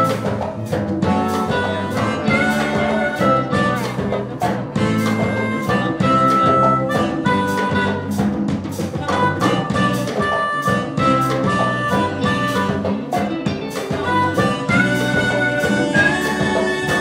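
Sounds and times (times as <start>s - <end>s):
drum kit beat: 0.0s - 17.0s
electric guitar: 0.0s - 17.0s
harmonica melody: 0.0s - 17.0s
saxophone: 0.0s - 17.0s.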